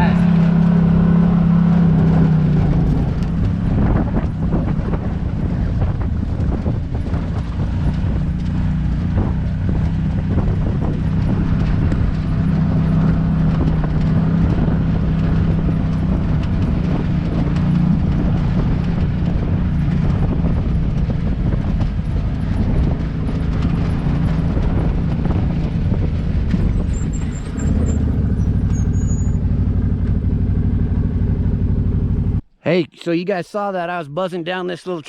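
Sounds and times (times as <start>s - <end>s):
utility vehicle engine running: 0.0s - 32.4s.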